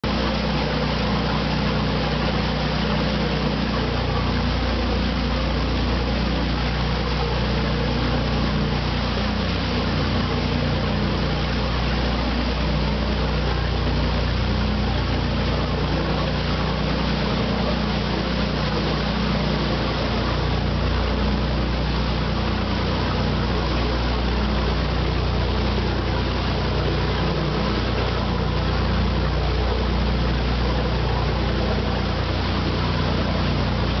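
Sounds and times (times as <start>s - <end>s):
boat engine droning: 0.0s - 34.0s
propeller wash hissing: 0.0s - 34.0s.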